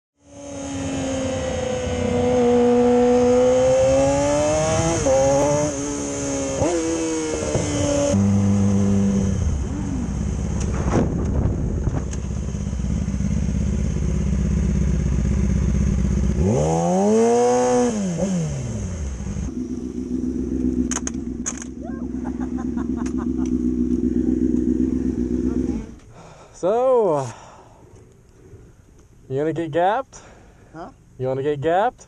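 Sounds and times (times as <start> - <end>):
motorcycle engine revving: 0.2 - 26.1.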